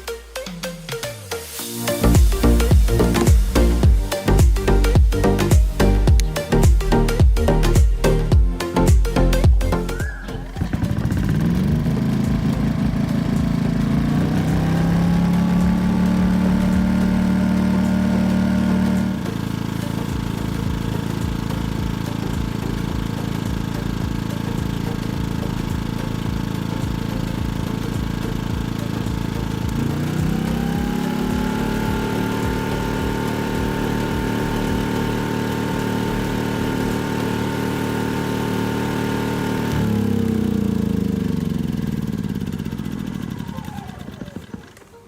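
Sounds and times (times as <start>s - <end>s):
generator running: 0.0s - 45.0s.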